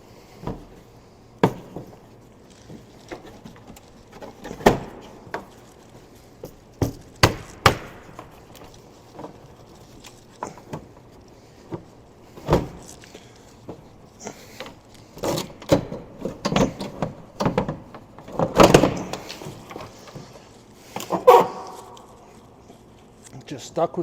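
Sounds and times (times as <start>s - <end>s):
knocks and scrapes of roof fixture: 0.3s - 22.3s.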